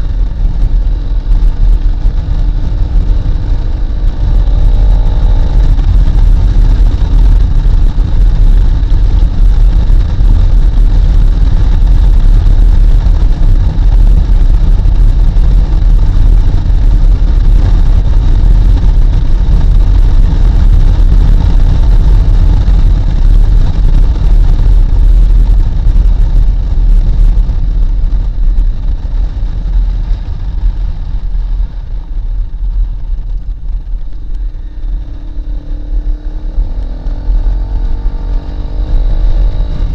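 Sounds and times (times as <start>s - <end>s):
motorcycle engine running: 0.0s - 39.9s
wind buffeting the microphone: 0.0s - 39.9s.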